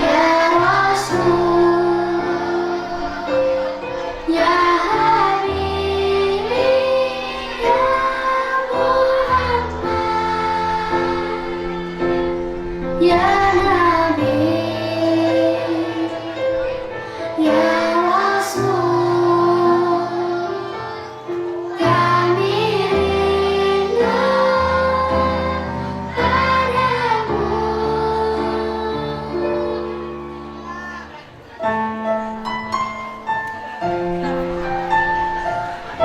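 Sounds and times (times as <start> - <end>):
children's choir singing: 0.0 - 36.0.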